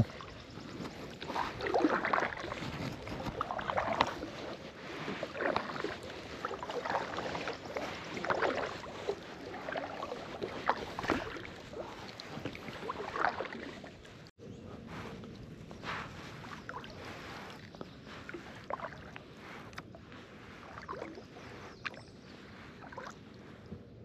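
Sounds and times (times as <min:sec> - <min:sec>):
paddle splashing through water: 0:00.0 - 0:14.3, 0:14.9 - 0:23.8.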